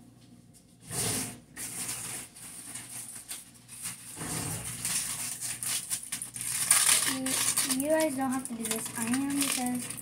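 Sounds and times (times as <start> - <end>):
aluminium foil crinkling: 1.6 - 10.0.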